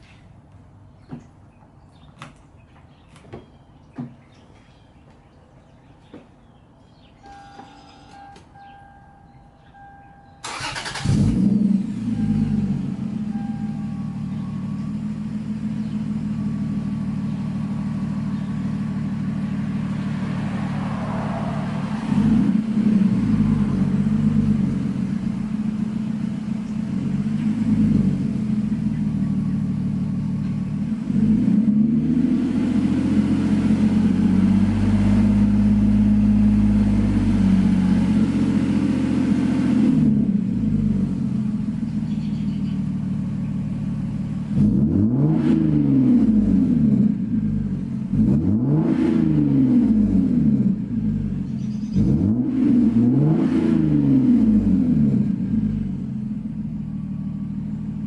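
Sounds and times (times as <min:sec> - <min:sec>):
car engine idling and revving: 0:07.0 - 0:58.0.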